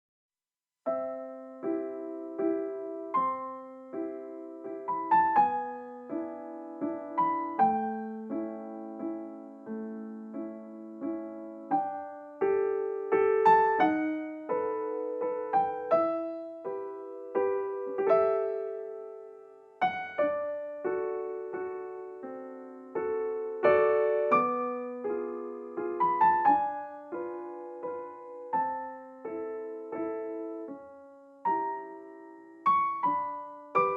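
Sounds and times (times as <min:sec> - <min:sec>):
slow solo piano melody: 0:00.8 - 0:33.9.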